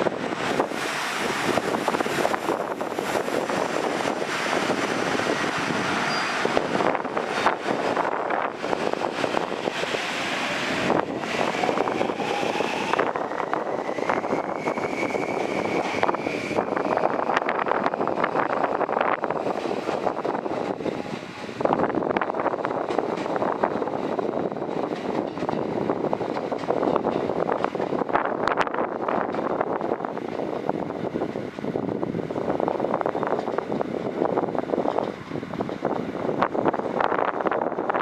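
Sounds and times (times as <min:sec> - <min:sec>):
train wheels clattering on rail: 0:00.0 - 0:31.8, 0:32.4 - 0:38.0
wind buffeting microphone: 0:00.0 - 0:38.0.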